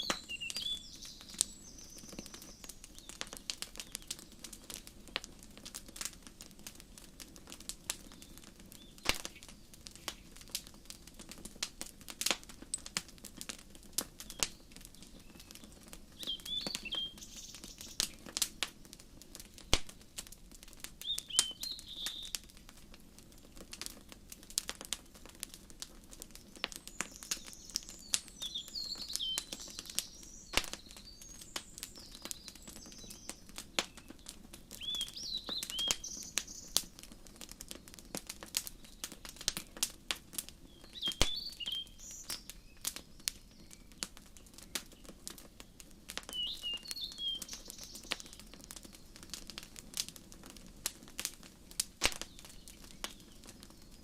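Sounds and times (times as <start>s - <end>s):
small birds chirping: 0.0s - 22.6s, 23.2s - 51.3s, 51.9s - 54.0s
wood fire crackling and popping: 0.0s - 54.0s.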